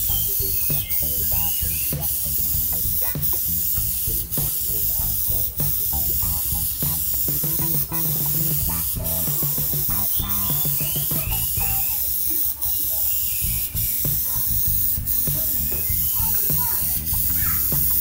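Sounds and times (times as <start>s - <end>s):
airbrush spraying: 0.0s - 18.0s.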